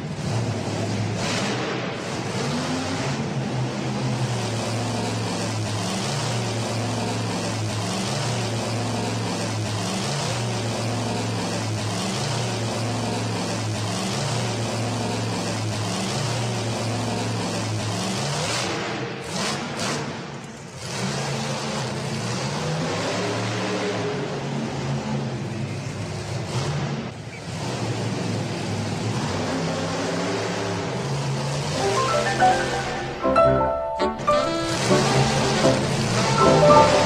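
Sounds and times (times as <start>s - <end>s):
truck engine roaring: 0.0s - 37.0s.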